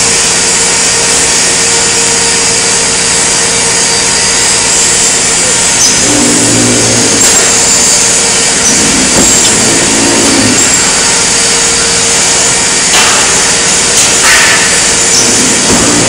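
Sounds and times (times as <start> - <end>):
metal-shop machinery roar: 0.0 - 16.0.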